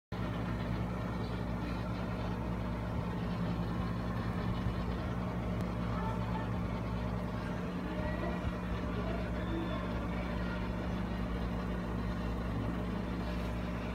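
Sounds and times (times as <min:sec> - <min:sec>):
motor humming: 0:00.1 - 0:13.9.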